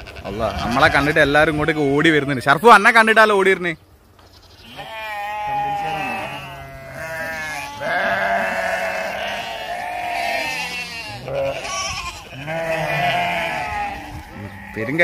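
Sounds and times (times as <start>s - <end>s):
goats bleating: 0.0s - 3.3s, 4.2s - 15.0s.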